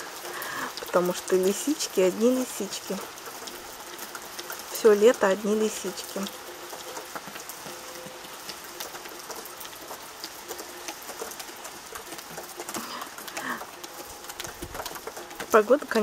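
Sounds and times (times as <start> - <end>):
rain hissing: 0.0 - 16.0
raindrops ticking: 0.0 - 16.0.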